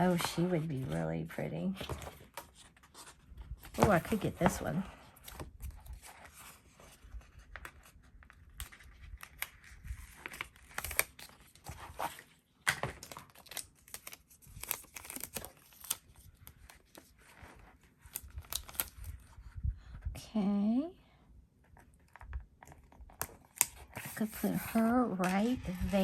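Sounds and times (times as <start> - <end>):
paper rustling and crinkling: 0.0 - 20.0, 21.7 - 26.0.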